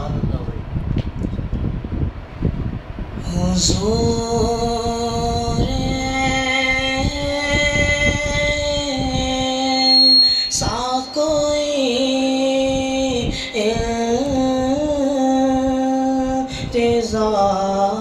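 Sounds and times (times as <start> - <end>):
boy singing unaccompanied: 3.2 - 18.0.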